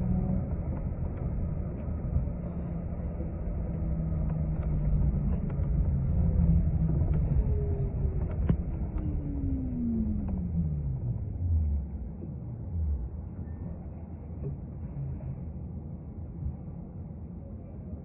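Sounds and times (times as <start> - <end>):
bus engine drone: 0.0 - 18.0
road rumble: 0.0 - 18.0.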